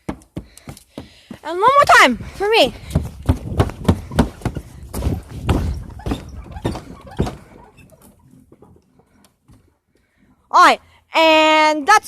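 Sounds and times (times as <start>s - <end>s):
footsteps on footbridge deck: 0.0s - 10.2s.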